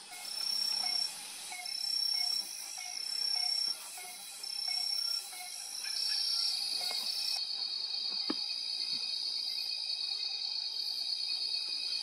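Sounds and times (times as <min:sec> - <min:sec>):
night insect trilling: 0:00.0 - 0:12.0.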